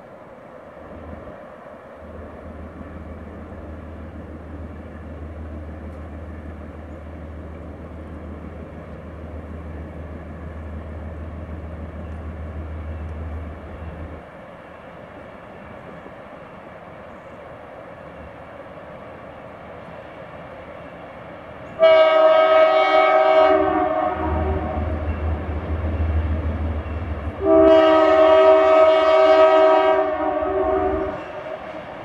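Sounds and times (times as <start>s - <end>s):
distant diesel locomotives rumbling: 0.0s - 32.0s.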